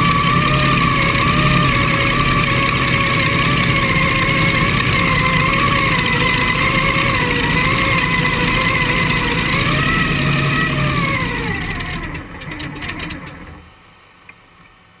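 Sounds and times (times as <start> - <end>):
boat engine running hard: 0.0 - 12.2.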